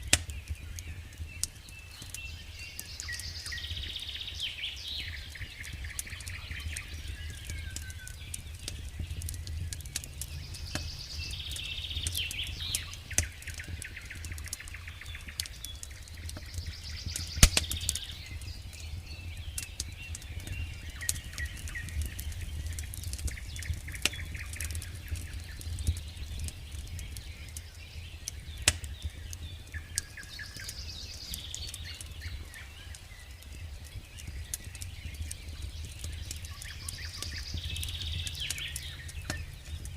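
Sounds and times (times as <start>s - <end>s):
birds singing: 0.0s - 39.9s
campfire wood crackling: 0.0s - 39.9s.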